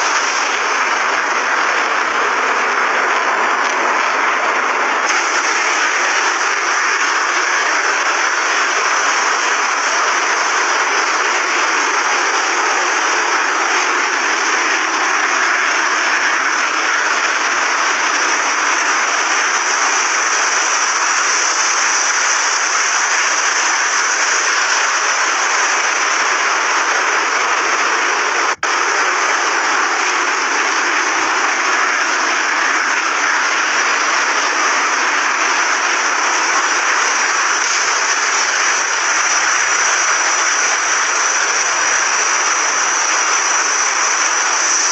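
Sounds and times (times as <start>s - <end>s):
fighter jet engine running: 0.0s - 44.9s.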